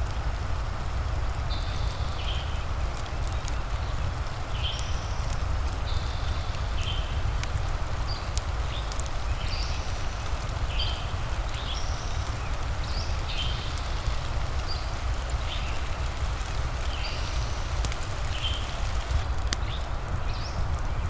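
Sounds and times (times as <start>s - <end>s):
fire crackling: 0.0s - 21.0s
rain: 0.0s - 21.0s.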